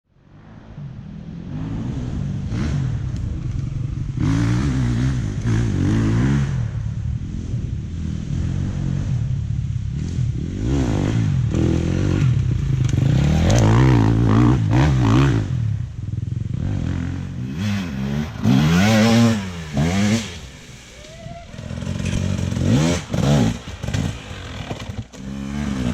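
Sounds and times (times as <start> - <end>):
dirt bike engine revving: 4.0 - 9.2, 9.9 - 25.9.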